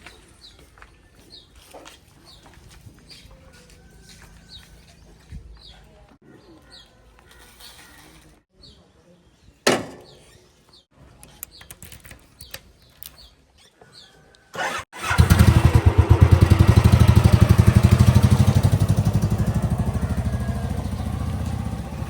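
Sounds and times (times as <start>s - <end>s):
faint outdoor background: 0.0s - 22.0s.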